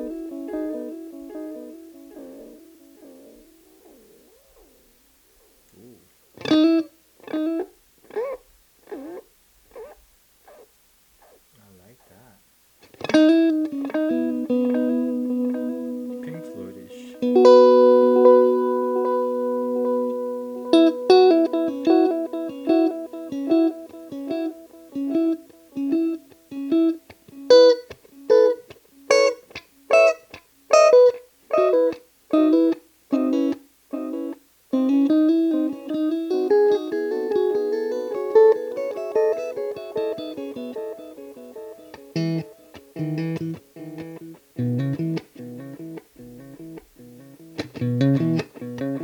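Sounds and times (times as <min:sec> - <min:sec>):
guitar with delay and reverb: 0:00.0 - 0:09.2, 0:12.9 - 0:49.0.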